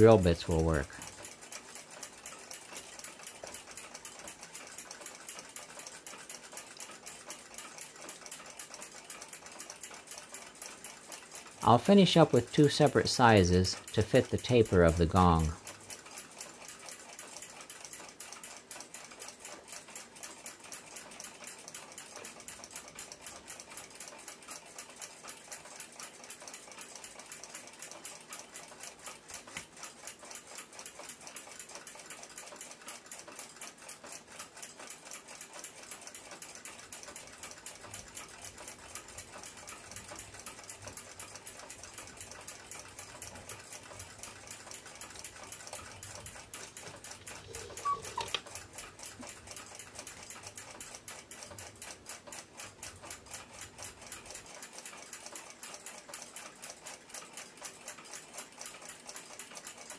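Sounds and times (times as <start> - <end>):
clock ticking fast: 0.0 - 59.9.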